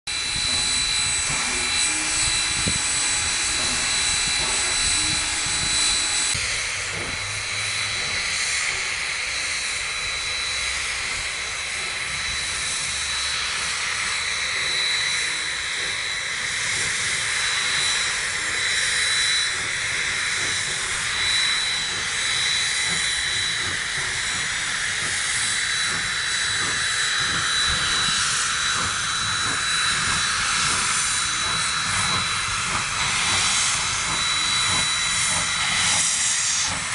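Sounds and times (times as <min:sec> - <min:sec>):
steam locomotive hissing steam: 0:00.1 - 0:36.9.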